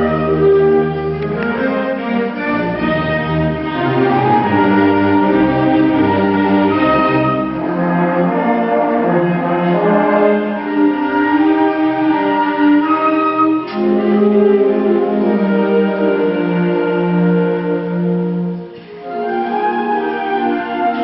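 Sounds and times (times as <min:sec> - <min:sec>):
brass and french horn chords: 0:00.0 - 0:21.0
strings playing: 0:00.0 - 0:21.0.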